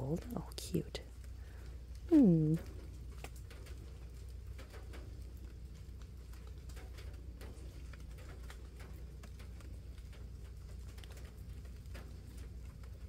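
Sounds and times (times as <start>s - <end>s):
steady low hum: 0.0s - 13.0s
water drops pattering on leaves: 0.0s - 13.0s.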